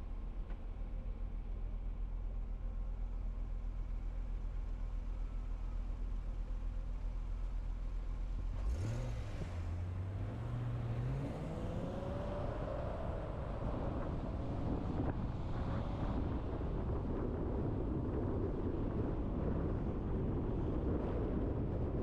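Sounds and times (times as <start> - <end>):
car engine idling and accelerating: 0.0 - 22.0
road and wind noise: 0.0 - 22.0.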